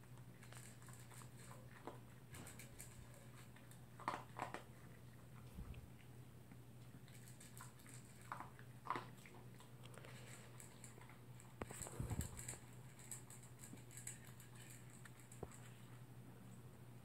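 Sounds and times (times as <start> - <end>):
dog chewing food: 0.0 - 16.0.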